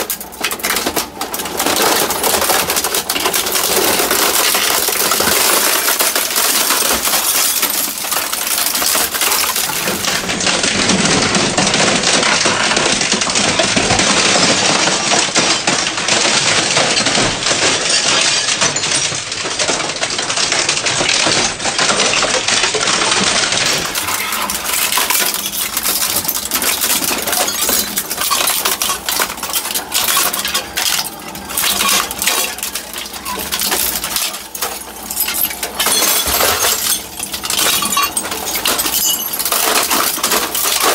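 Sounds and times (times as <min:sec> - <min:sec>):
shredder crunching plastic: 0:00.0 - 0:40.9.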